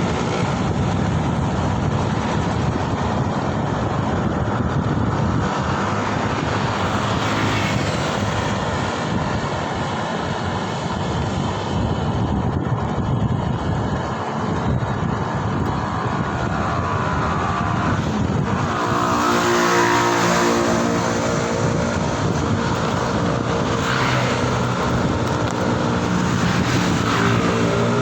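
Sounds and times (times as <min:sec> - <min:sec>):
wind and road noise: 0:00.0 - 0:28.0.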